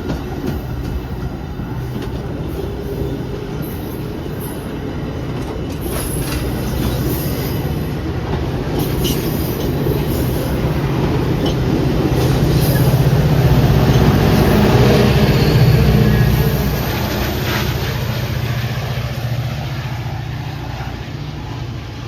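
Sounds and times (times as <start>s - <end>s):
train wheel squeals: 0.0s - 18.9s
diesel train rumbling: 0.0s - 22.0s.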